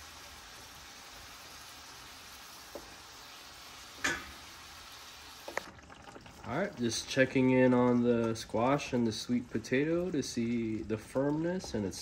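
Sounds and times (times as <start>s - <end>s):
stew simmering with soft sizzle: 0.0s - 12.0s.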